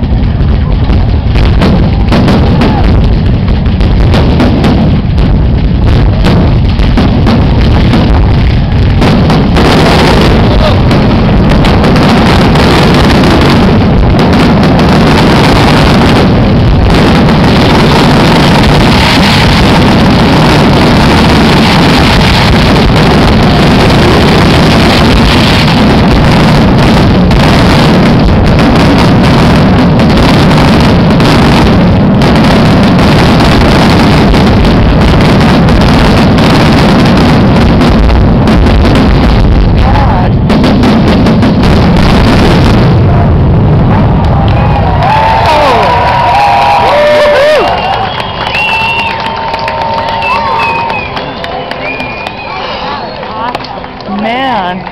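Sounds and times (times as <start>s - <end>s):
fireworks booming and crackling: 0.0s - 54.9s.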